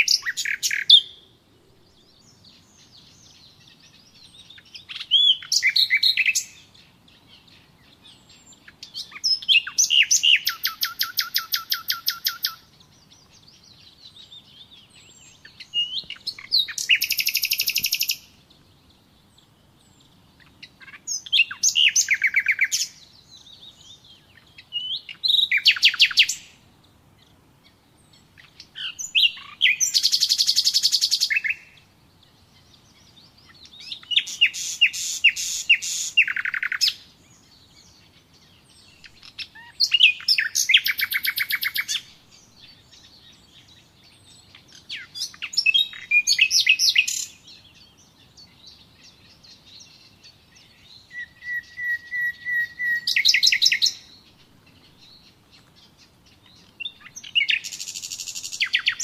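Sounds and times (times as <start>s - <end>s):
faint bird chirps: 0.0s - 59.0s
songbird singing with trill: 0.0s - 59.0s.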